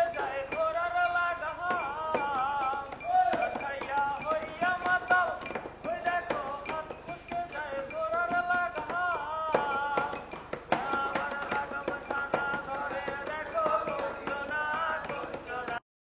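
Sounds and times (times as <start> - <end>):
person singing: 0.0 - 15.8
sharp taps: 1.7 - 15.8.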